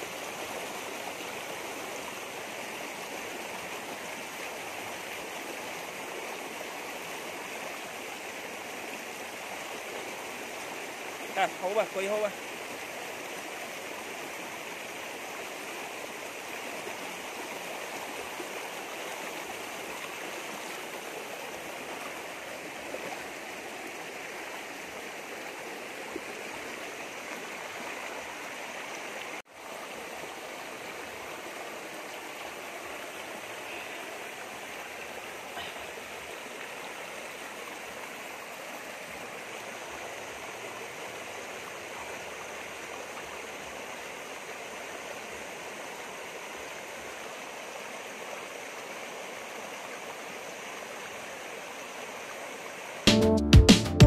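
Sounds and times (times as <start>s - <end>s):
stream rushing over rocks: 0.0s - 53.2s.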